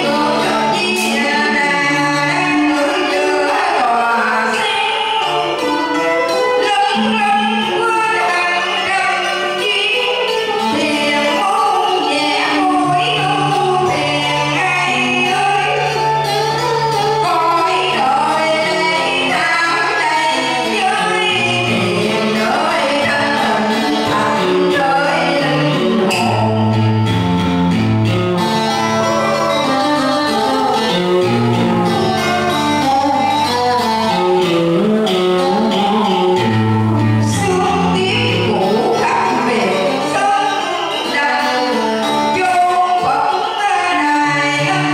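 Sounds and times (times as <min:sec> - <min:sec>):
person singing: 0:00.0 - 0:27.2, 0:28.1 - 0:44.9
instrumental backing with bass: 0:00.0 - 0:44.9.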